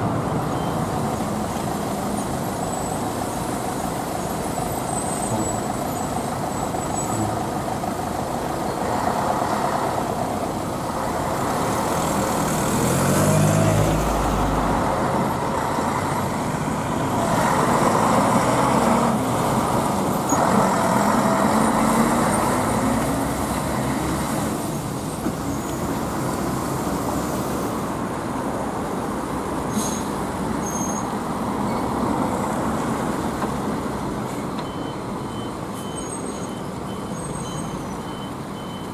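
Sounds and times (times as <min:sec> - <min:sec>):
bus diesel engines accelerating: 0:00.0 - 0:38.9
steady traffic noise: 0:00.0 - 0:38.9.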